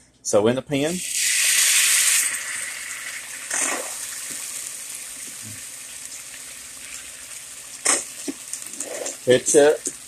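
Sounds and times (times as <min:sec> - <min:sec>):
ketchup sizzling in hot pan: 0:01.0 - 0:10.0.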